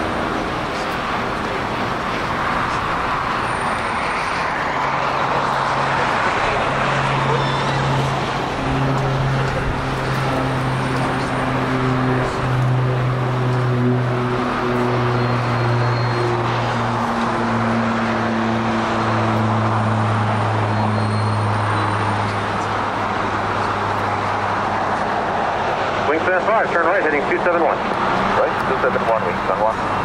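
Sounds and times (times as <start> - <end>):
jet engines roaring: 0.0 - 30.0
road traffic: 0.0 - 30.0.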